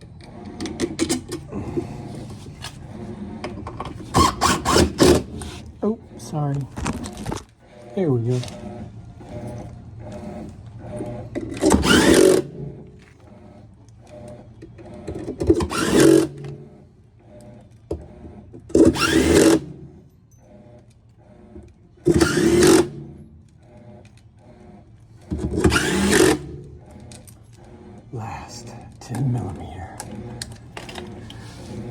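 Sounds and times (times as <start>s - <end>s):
cordless drill motor whining: 0.0s - 31.9s.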